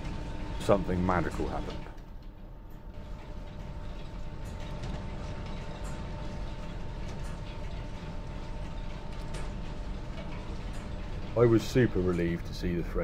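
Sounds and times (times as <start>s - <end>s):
shop machinery running with whine: 0.0s - 13.0s.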